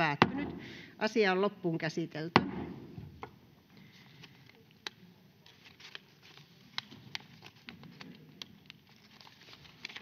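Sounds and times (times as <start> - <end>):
faint low background noise: 0.0 - 10.0.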